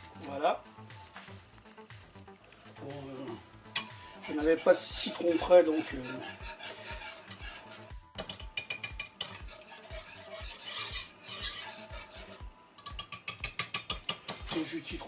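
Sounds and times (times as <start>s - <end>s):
wire whisk scraping a pot: 2.5s - 15.0s.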